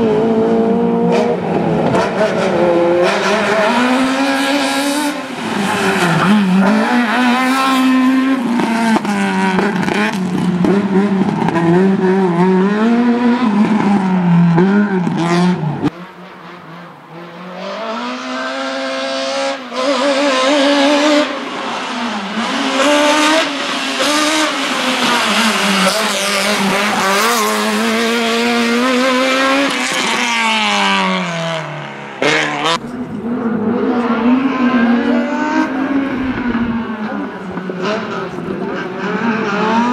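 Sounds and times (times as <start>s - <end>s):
car engine revving and shifting: 0.0s - 39.9s.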